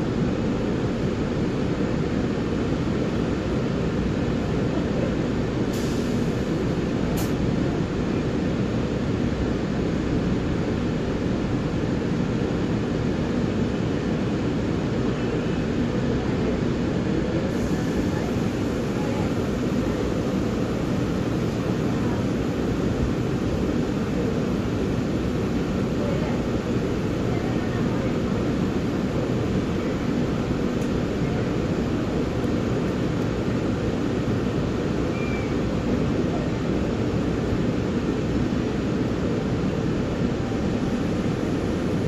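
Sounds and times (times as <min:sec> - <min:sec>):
train rumble inside carriage: 0:00.0 - 0:42.0.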